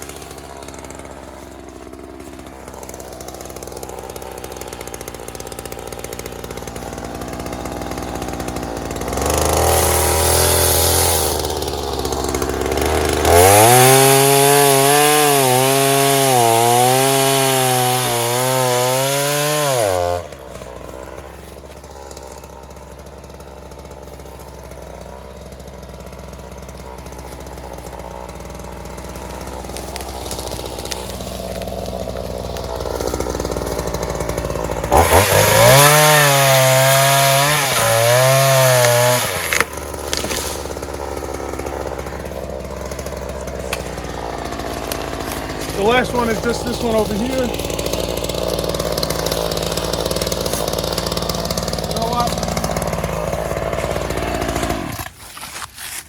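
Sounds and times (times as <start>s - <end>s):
chainsaw cutting wood: 0.0s - 56.0s
chainsaw idling and revving: 0.0s - 56.0s.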